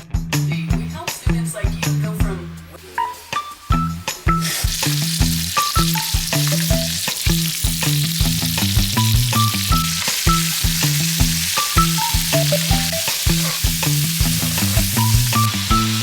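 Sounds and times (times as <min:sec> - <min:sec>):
music with a steady beat: 0:00.0 - 0:02.7, 0:03.3 - 0:16.0
food sizzling in a pan: 0:02.7 - 0:16.0.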